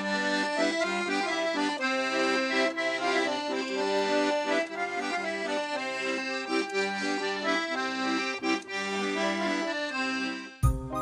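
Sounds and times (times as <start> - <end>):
accordion playing a folk tune: 0.0 - 11.0.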